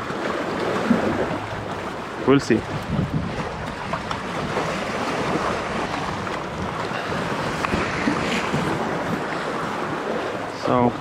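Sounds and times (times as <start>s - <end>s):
sea waves washing on shore: 0.0s - 11.0s
wind buffeting microphone: 0.0s - 11.0s.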